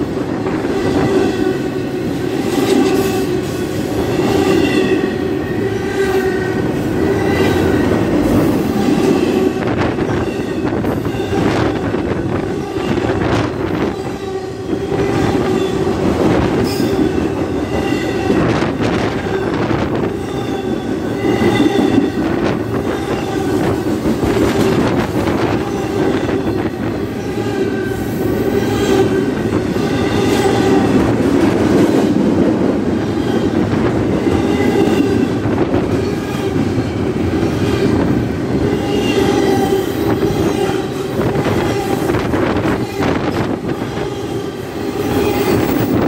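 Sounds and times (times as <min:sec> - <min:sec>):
steel wheels rumbling on rails: 0:00.0 - 0:46.0.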